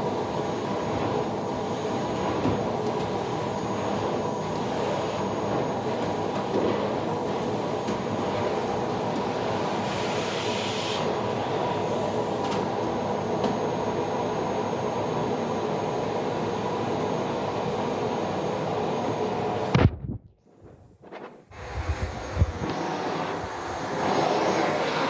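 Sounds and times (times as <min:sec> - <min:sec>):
vacuum cleaner running: 0:00.0 - 0:19.7, 0:20.5 - 0:25.0.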